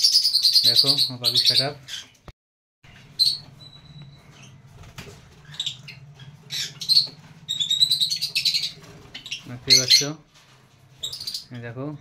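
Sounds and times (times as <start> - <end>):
lovebirds chirping and twittering: 0.0 - 2.3, 2.9 - 12.0.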